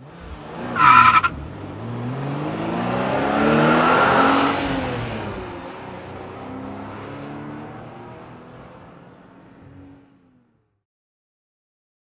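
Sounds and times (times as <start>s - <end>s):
car engine starting and revving: 0.0s - 10.2s.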